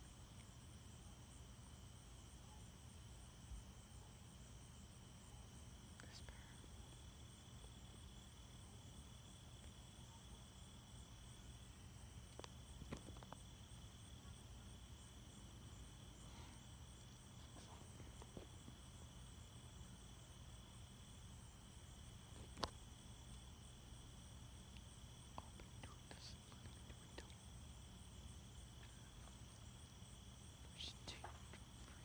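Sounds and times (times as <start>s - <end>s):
night insects trilling: 0.0s - 32.0s.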